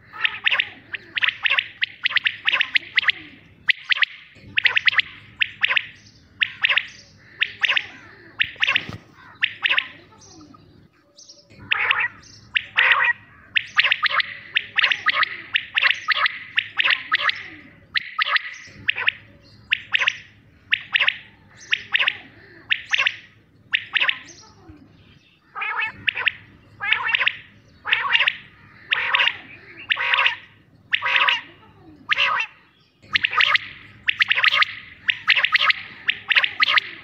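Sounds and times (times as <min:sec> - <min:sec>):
quail calling: 0:00.0 - 0:37.0.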